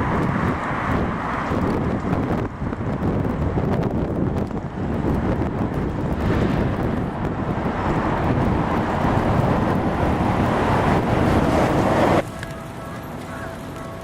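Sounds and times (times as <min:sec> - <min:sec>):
wind buffeting microphone: 0:00.0 - 0:12.6
road traffic rushing: 0:00.0 - 0:14.0.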